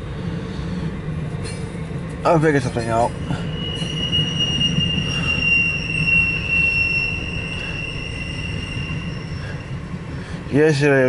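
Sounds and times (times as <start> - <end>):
low rumble of passing train cars: 0.0 - 11.0
train wheels squealing on rail: 0.6 - 10.8.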